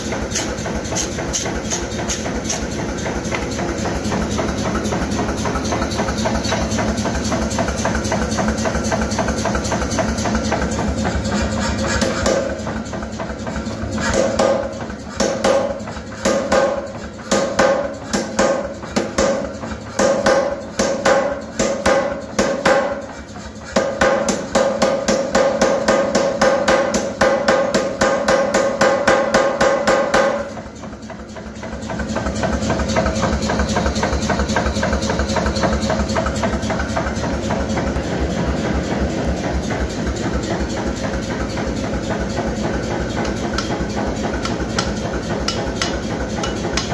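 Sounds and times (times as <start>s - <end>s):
power hammer striking steel: 0.0s - 30.5s, 31.9s - 46.9s
machine chugging: 0.0s - 46.9s.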